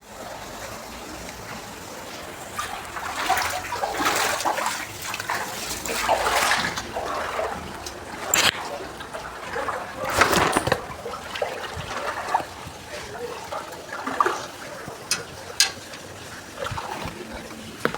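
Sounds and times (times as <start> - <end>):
floodwater splashing and sloshing: 0.0 - 17.9
steady wash of water: 0.0 - 17.9.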